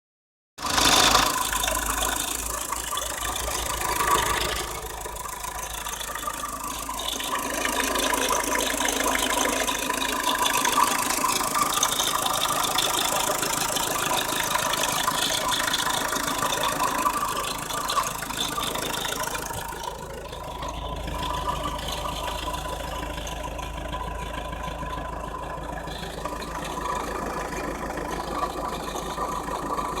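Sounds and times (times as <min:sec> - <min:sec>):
diesel engine running: 0:00.6 - 0:30.0
rhythmic engine rattle: 0:00.6 - 0:30.0.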